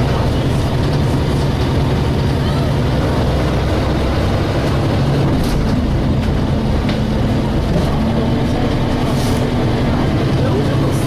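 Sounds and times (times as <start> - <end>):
bus body rattles: 0.0 - 11.0
bus engine drone: 0.0 - 11.0.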